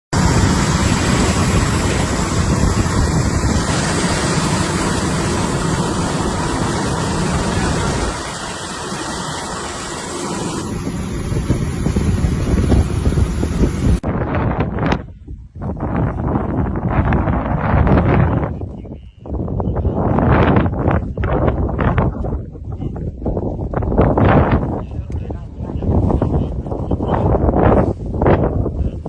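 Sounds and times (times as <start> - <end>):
wind buffeting microphone: 0.2 - 29.0.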